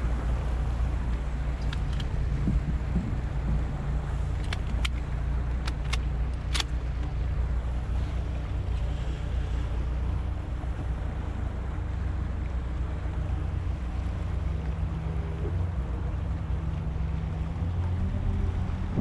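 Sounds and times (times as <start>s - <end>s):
outboard motor running: 0.0s - 19.0s
rushing water: 0.0s - 19.0s
wind: 0.0s - 19.0s.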